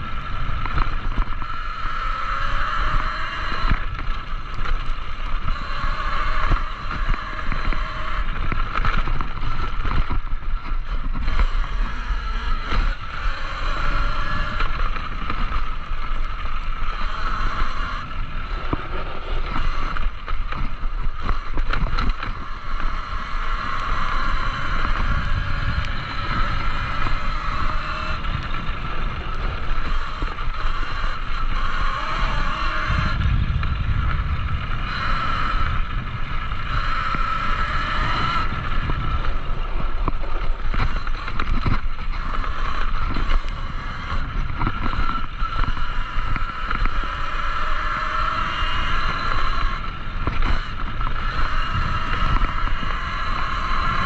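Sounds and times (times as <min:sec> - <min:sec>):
electric motor whine: 0:00.0 - 0:54.0
tyres on dirt and gravel: 0:00.0 - 0:54.0
wind on microphone: 0:00.0 - 0:54.0.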